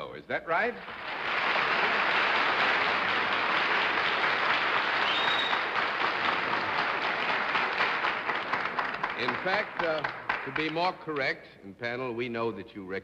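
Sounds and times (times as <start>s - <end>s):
audience applauding: 0.7s - 11.3s.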